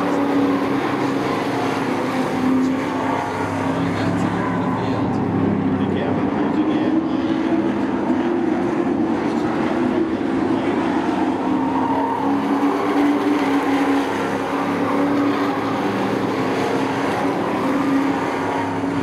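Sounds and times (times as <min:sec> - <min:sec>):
racing truck engines: 0:00.0 - 0:19.0.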